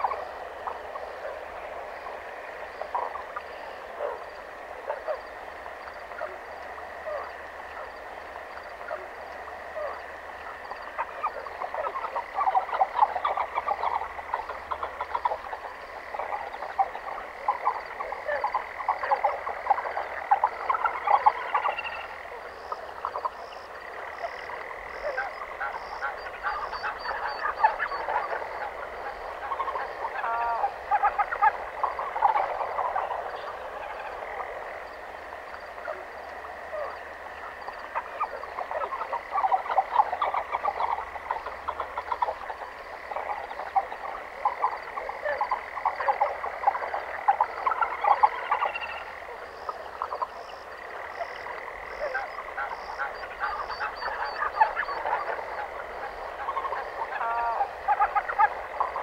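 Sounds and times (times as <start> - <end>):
frogs croaking: 0.0 - 59.0.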